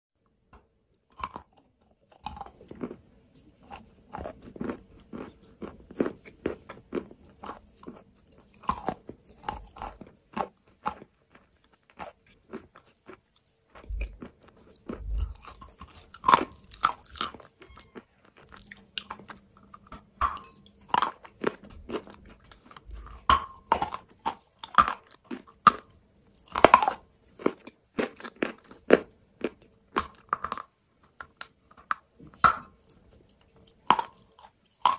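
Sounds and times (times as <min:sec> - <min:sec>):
chalk crunching and chewing: 0:00.6 - 0:34.9.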